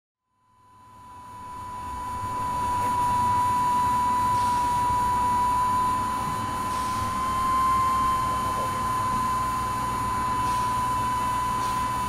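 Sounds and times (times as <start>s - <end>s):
jet engine whine and rumble: 0.6s - 12.0s.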